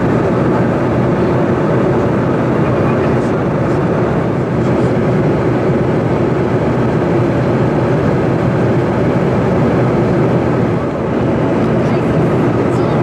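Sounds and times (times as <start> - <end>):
jet cabin noise: 0.0 - 13.0.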